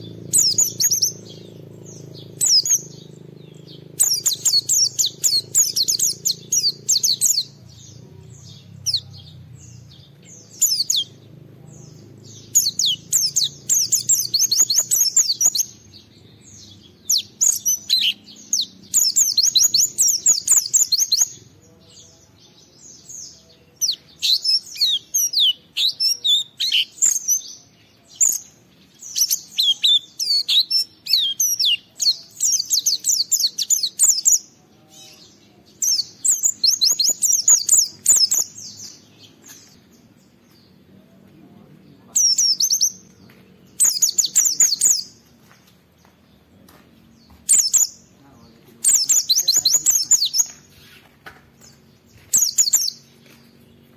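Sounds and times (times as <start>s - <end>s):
bird singing high chirps: 0.0s - 40.9s, 41.5s - 53.9s.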